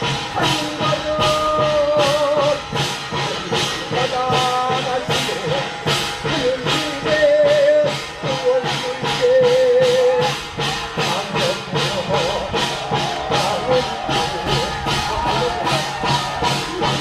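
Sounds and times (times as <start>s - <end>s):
drums and cymbals beat: 0.0s - 17.0s.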